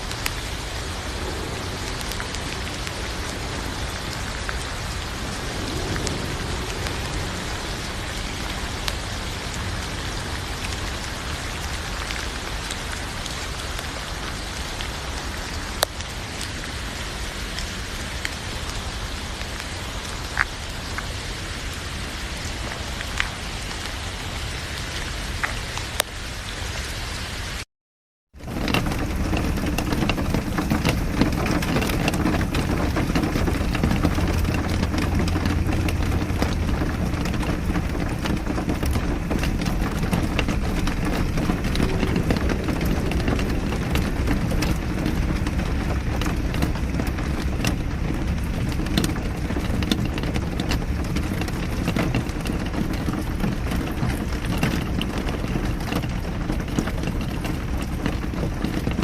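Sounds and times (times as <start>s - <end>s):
continuous low rumble: 0.0s - 26.1s, 28.4s - 59.0s
rain drops pattering: 0.0s - 27.6s, 28.3s - 59.0s.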